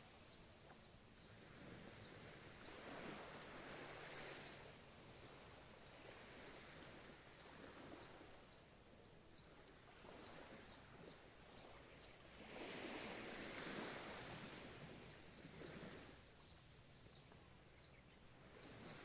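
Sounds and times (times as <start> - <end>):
soft ocean waves: 0.0 - 19.0.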